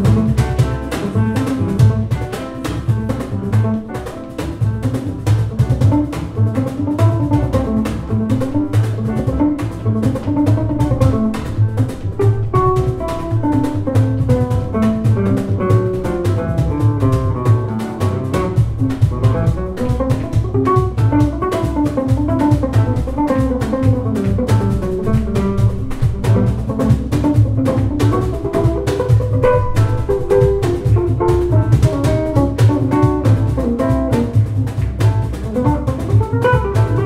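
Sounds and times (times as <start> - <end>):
drum kit: 0.0 - 37.0
jazz band playing: 0.0 - 37.0
plucked double bass: 0.0 - 37.0.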